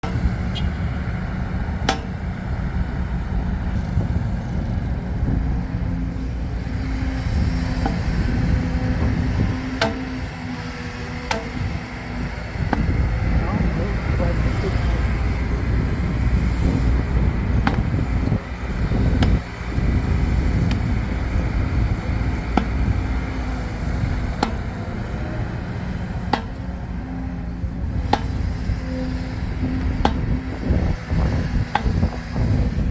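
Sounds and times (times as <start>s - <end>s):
heavy vehicle engine rumbling: 0.0s - 32.9s
steady hum: 4.0s - 32.9s.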